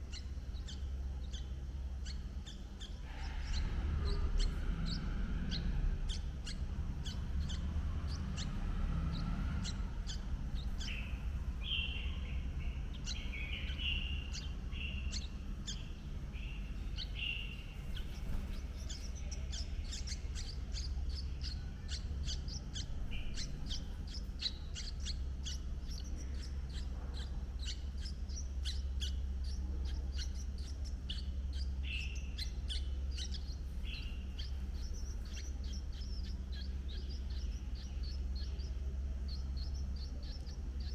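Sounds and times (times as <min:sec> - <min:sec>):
birds chirping: 0:00.0 - 0:40.9
steady low rumble: 0:00.0 - 0:40.9.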